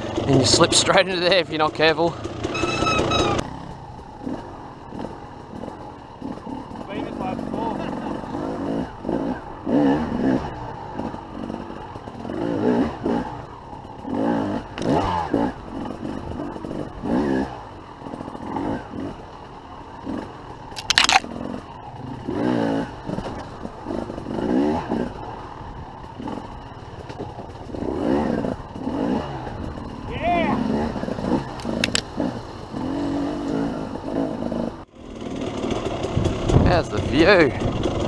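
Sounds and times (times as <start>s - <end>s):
dirt bike engine revving: 0.0s - 19.3s, 20.0s - 38.0s.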